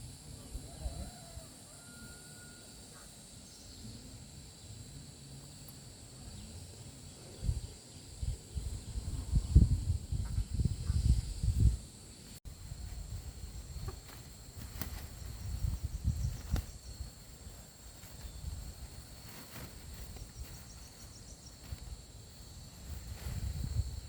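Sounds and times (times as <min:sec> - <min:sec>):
insect pulsing trill: 0:00.0 - 0:24.0
insects chirping: 0:00.0 - 0:24.0.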